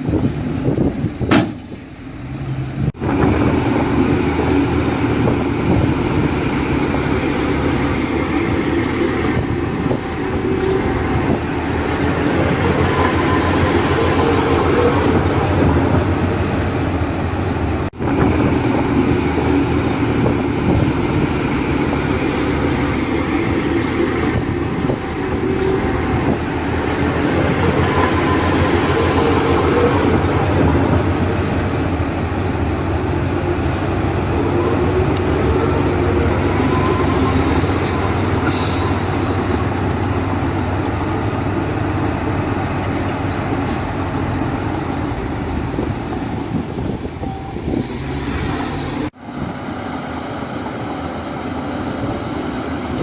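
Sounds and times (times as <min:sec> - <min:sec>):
heavy diesel machinery running: 0:00.0 - 0:53.0.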